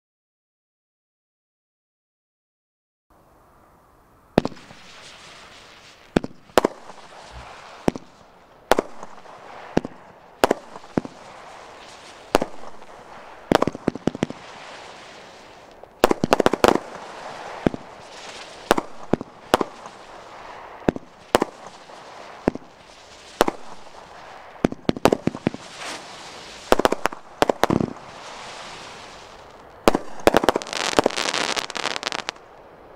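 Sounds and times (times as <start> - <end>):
firework hissing: 4.4 - 32.5
firework shots: 4.4 - 32.6.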